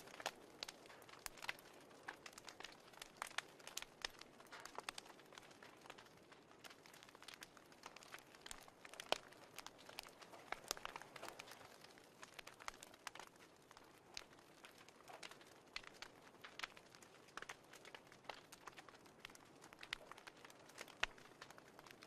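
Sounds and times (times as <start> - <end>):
fire crackling faintly: 0.0 - 22.0.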